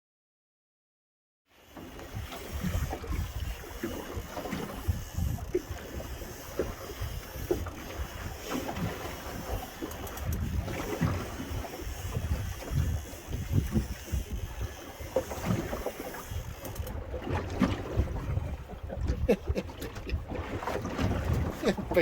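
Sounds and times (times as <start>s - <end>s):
sea water lapping: 1.5s - 22.0s
knocks and splashes: 1.8s - 22.0s
wind buffeting microphone: 2.0s - 22.0s.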